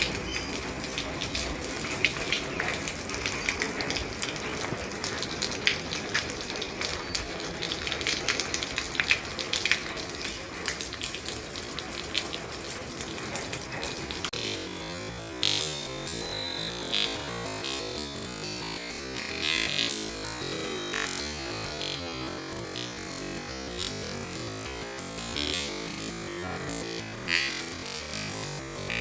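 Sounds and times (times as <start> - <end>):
rain on a roof: 0.0 - 29.0.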